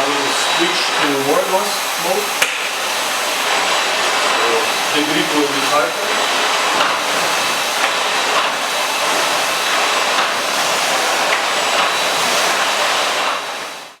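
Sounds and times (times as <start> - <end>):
vacuum cleaner on carpet: 0.0 - 14.0.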